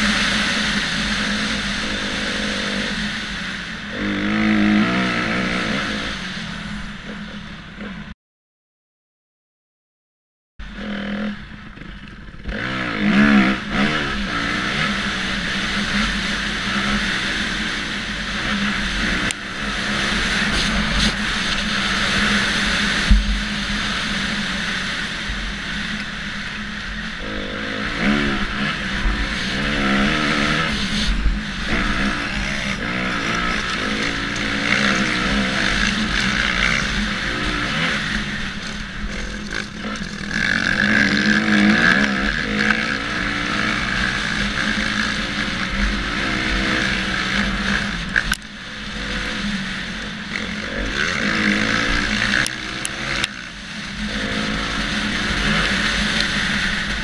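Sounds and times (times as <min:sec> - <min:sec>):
dirt bike engine revving: 0:00.0 - 0:08.0, 0:10.7 - 0:57.0.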